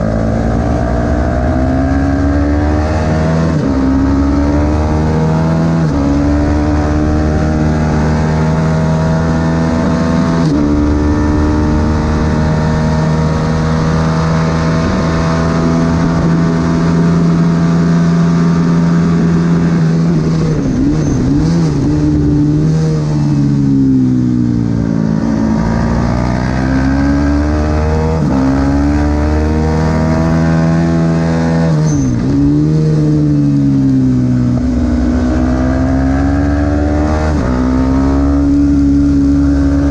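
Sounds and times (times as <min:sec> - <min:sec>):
race motorcycle engine revving: 0:00.0 - 0:39.9.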